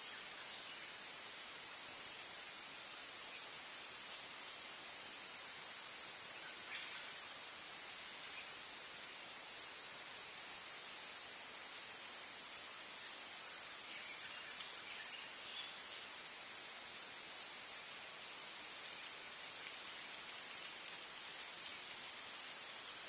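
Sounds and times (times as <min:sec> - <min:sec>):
microphone hiss: 0:00.0 - 0:23.0.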